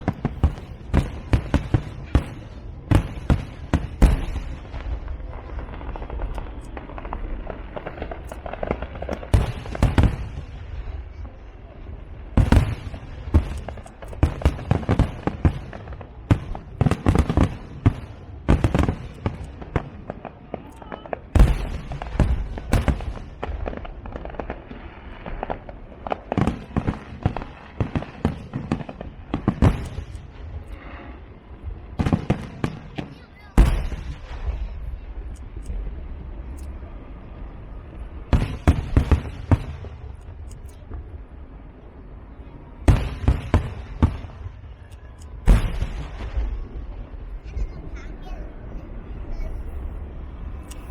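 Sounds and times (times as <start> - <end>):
fireworks bangs: 0.0 - 50.9.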